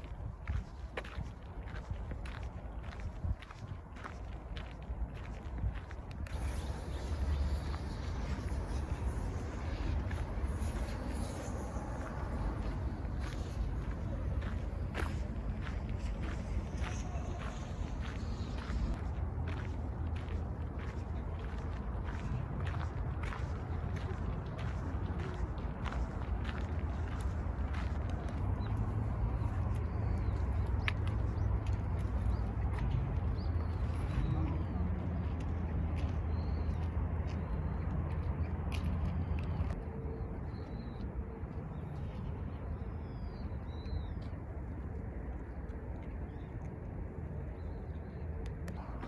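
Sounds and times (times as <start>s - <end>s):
footsteps walking: 0.0s - 39.8s.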